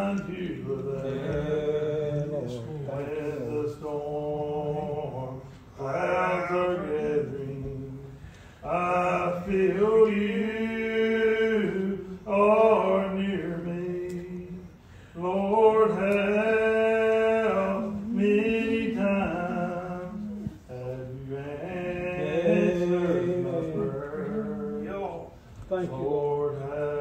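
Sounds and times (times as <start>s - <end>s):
unaccompanied hymn singing: 0.0s - 27.0s.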